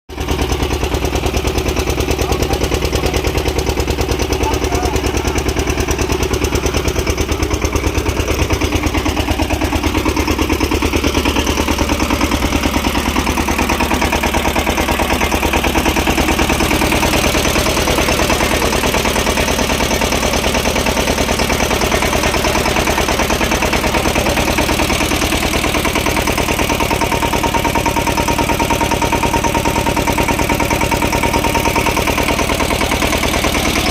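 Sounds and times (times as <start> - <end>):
diesel engine thumping: 0.1 - 33.9.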